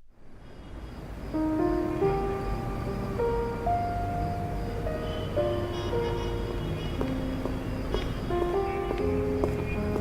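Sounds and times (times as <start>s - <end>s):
slow sparse melody: 1.4s - 10.0s.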